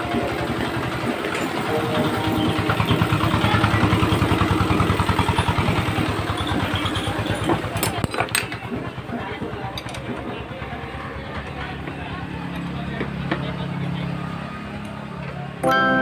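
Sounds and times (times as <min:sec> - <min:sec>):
small diesel engine running: 0:00.0 - 0:15.6.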